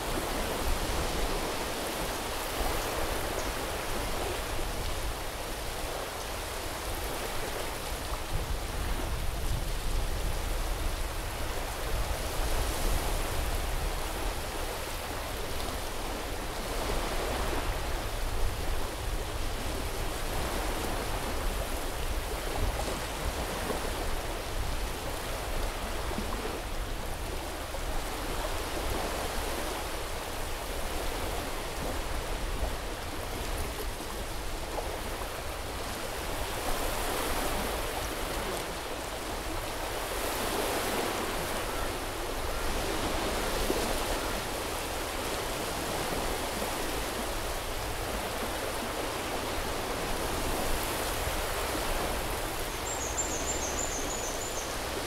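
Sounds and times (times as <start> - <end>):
surf hissing on a beach: 0.0 - 55.0.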